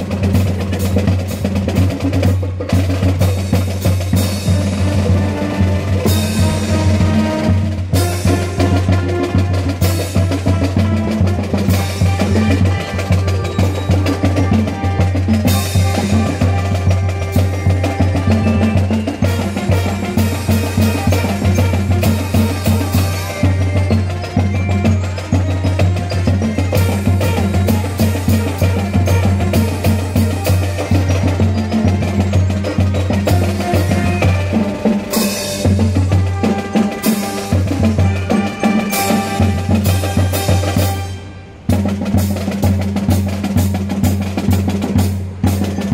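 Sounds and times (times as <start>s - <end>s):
bass and snare drum beat: 0.0s - 45.9s
brass band playing: 0.0s - 45.9s.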